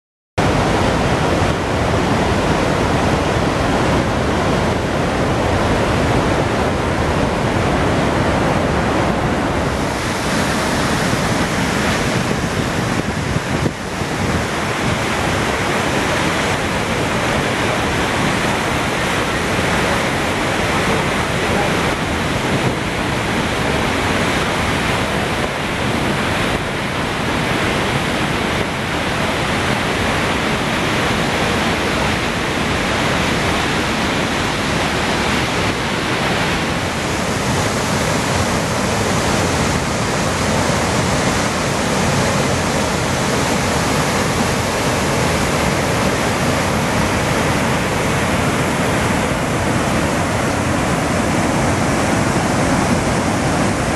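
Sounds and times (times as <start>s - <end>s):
waterfall rushing: 0.4s - 53.9s.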